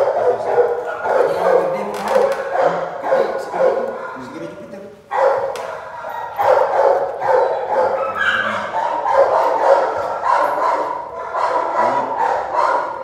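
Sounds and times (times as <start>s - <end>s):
puppy barking and yipping: 0.0s - 4.4s, 5.1s - 13.0s.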